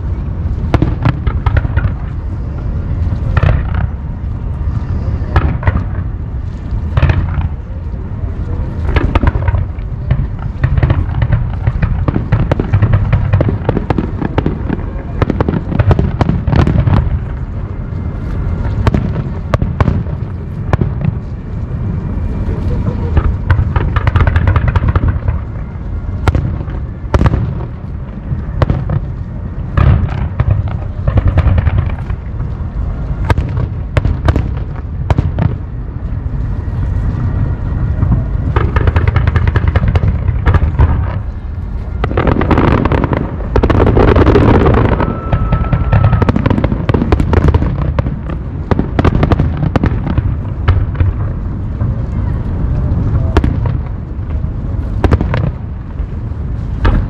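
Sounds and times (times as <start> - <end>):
continuous low rumble: 0.0 - 57.0
fireworks booming and crackling: 0.0 - 57.0.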